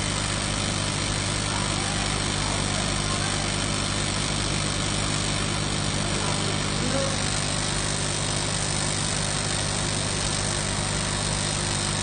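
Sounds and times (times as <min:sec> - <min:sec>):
welding machine humming: 0:00.0 - 0:12.0.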